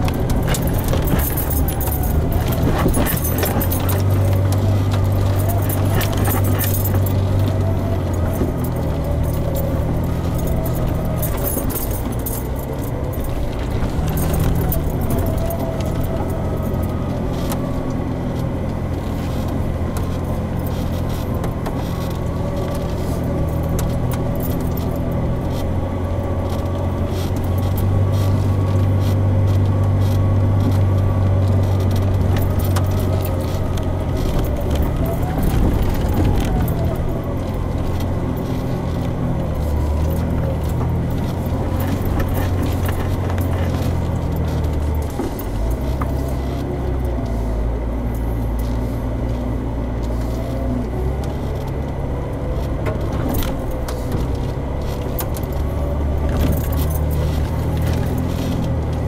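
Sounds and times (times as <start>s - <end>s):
rattling and clicking: 0.0s - 47.4s, 48.0s - 59.0s
car engine running: 0.0s - 59.0s.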